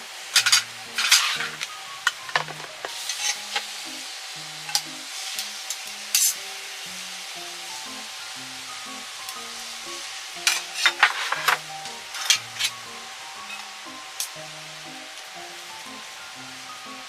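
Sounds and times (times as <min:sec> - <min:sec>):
crackling and sizzling: 0:00.0 - 0:17.0
soft background music: 0:00.0 - 0:17.0.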